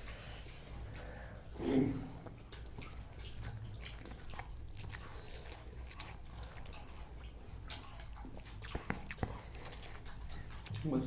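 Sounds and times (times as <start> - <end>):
people chewing and smacking: 0.0 - 11.0.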